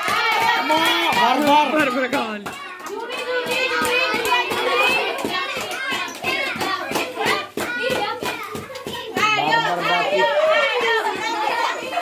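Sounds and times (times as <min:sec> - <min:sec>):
handclaps: 0:00.0 - 0:09.8
children shouting and cheering: 0:00.0 - 0:12.0.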